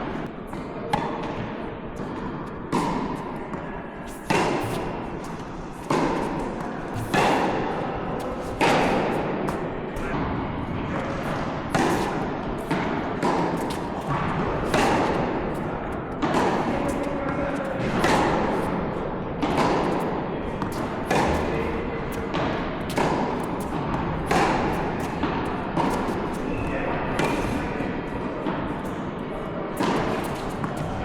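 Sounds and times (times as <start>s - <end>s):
tennis balls struck by rackets: 0.0s - 31.0s.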